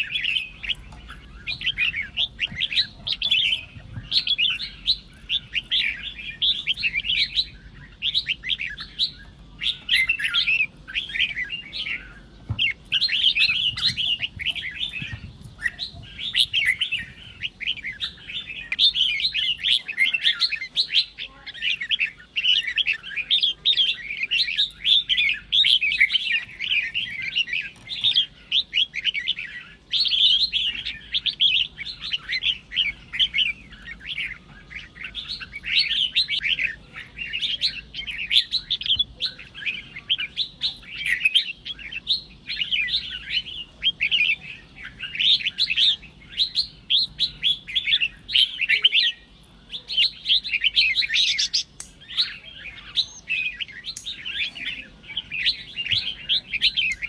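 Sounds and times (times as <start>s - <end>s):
bird chirping and warbling: 0.0s - 57.0s.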